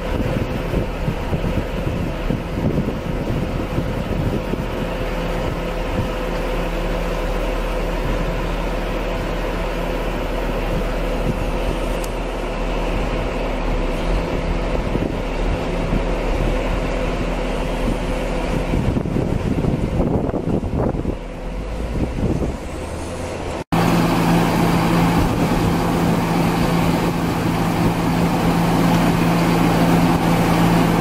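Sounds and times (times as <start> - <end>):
machinery drone: 0.0 - 31.0.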